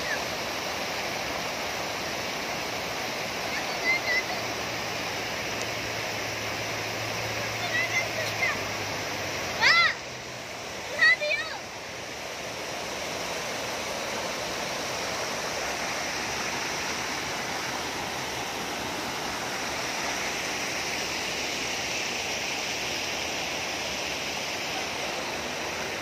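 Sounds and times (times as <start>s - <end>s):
water rushing over a weir: 0.0s - 26.0s.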